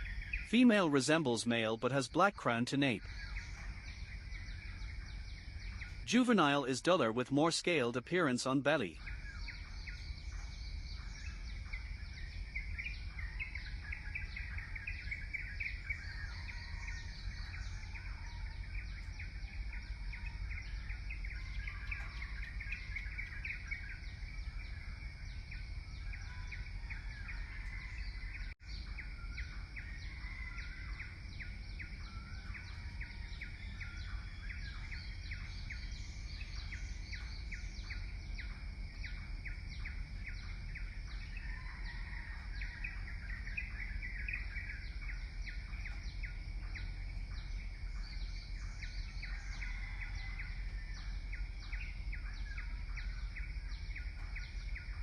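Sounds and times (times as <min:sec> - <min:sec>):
bird chirps and calls: 0:00.0 - 0:24.8, 0:25.9 - 0:55.0.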